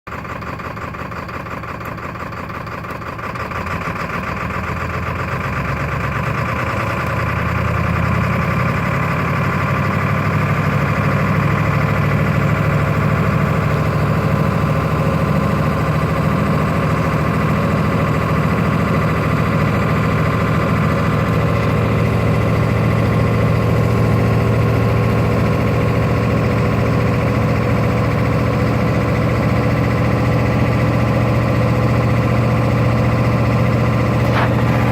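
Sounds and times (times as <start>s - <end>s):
diesel engine idling rough: 0.1s - 34.9s.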